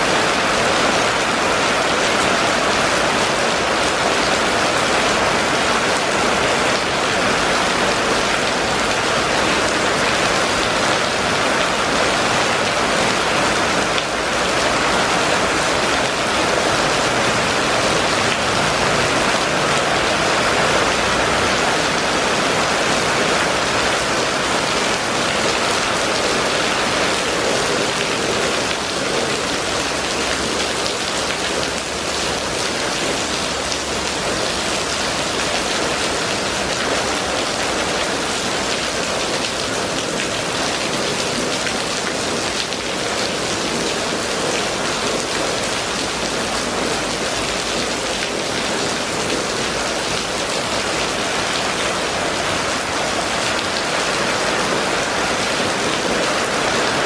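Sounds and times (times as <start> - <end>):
rain on wet pavement: 0.0 - 57.0.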